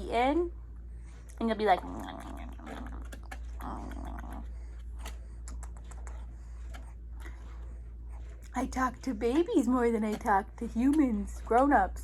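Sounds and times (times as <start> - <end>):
low murmur: 0.0 - 12.0
steady low hum: 0.0 - 12.0
chewing and mouth noise: 1.1 - 11.5.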